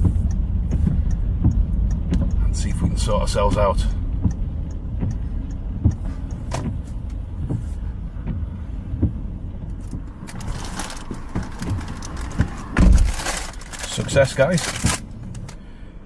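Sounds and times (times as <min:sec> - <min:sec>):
light clicks and knocks: 0:00.0 - 0:15.6
car engine and road rumble: 0:00.0 - 0:16.0.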